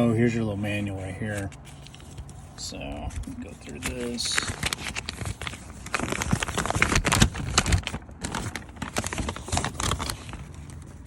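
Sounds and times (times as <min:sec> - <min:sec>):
pages flipping and rustling: 0:00.8 - 0:11.0.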